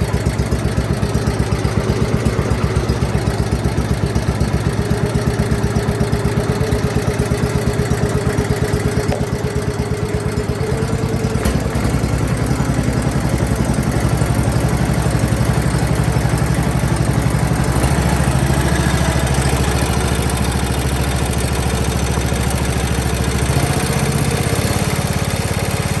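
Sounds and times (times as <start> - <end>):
high engine whine: 0.0 - 26.0
lawn tractor engine idling: 0.0 - 26.0.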